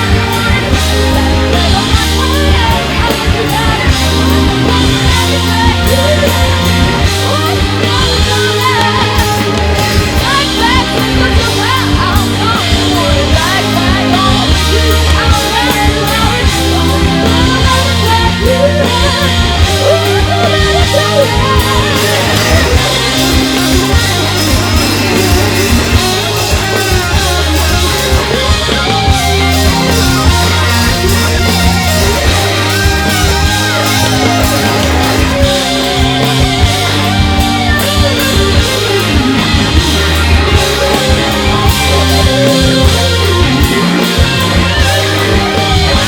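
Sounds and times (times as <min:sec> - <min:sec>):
bending electric guitar lead: 0:00.0 - 0:46.0
rock band playing live: 0:00.0 - 0:46.0.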